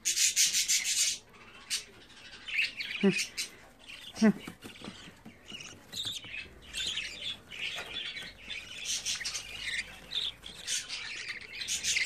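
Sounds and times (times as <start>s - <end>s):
chicks begging calls: 0.0s - 12.0s.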